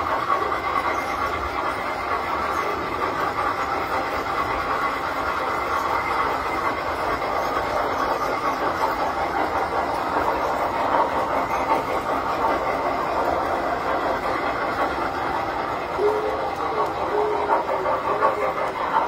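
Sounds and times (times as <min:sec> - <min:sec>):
model trains clattering on track: 0:00.0 - 0:19.0.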